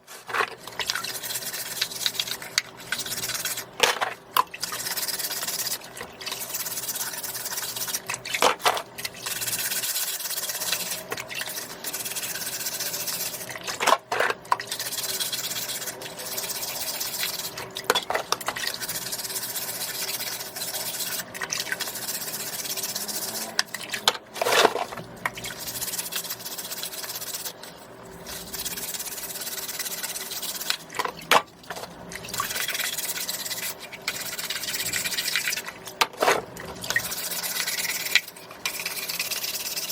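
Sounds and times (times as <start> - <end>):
wet rubbing and scraping: 0.0 - 39.9.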